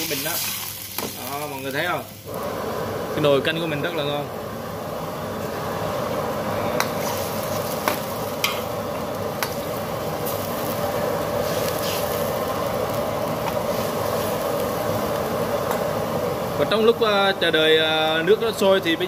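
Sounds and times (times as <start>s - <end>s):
wok sizzling hiss: 0.0s - 19.0s.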